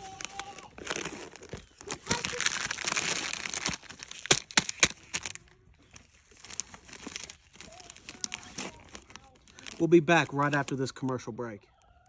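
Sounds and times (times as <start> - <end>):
sharp paper crackles: 0.0 - 11.5
paper wrapper rustling and crinkling: 0.0 - 12.0.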